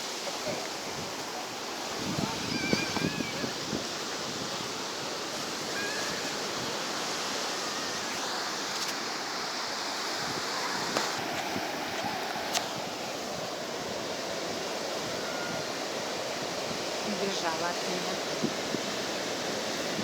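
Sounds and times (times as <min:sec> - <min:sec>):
sea waves washing onto shore: 0:00.0 - 0:20.0.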